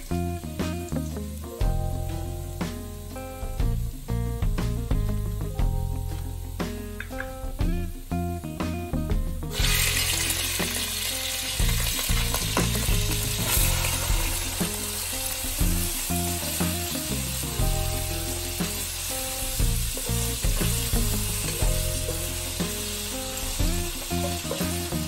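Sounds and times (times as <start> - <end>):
seafood sizzling in oil: 0.0 - 7.8, 9.5 - 25.0
background music: 0.0 - 25.0.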